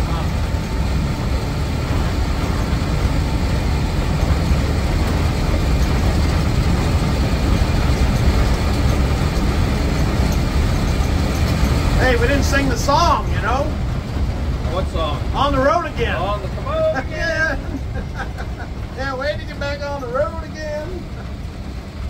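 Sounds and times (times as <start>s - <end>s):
engine and road noise drone: 0.0s - 22.0s.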